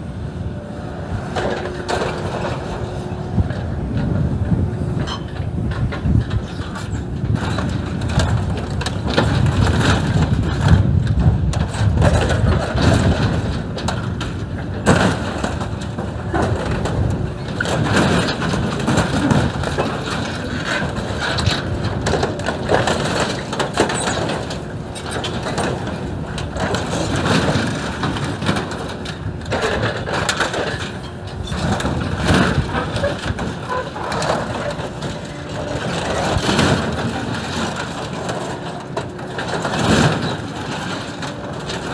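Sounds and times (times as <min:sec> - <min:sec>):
excavator engine running: 0:00.0 - 0:41.9
metal crunching and breaking: 0:05.6 - 0:41.9.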